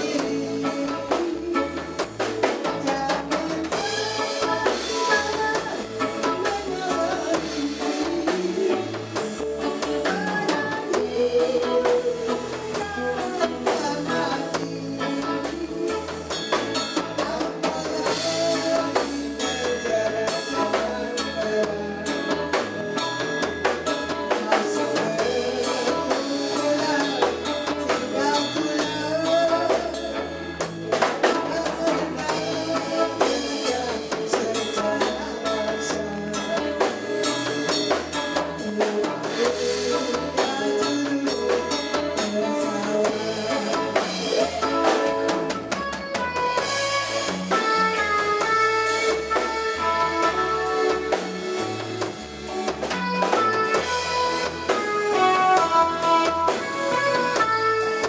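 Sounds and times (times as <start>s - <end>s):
bass guitar: 0.0s - 58.0s
drum kit steady beat: 0.0s - 58.0s
electric guitar: 0.0s - 58.0s.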